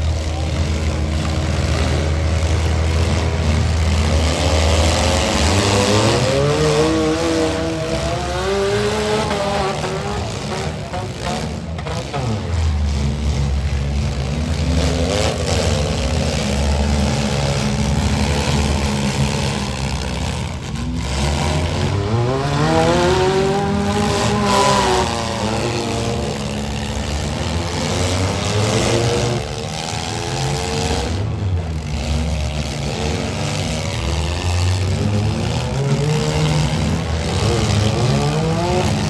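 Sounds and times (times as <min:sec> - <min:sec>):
car engines running hard: 0:00.0 - 0:39.0
engine revving: 0:00.0 - 0:39.0.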